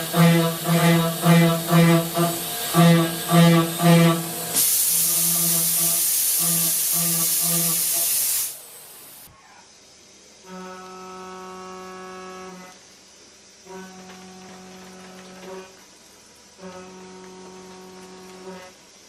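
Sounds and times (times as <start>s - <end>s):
milling machine humming: 0.0s - 8.0s, 10.5s - 19.0s
loud hiss: 0.0s - 19.0s.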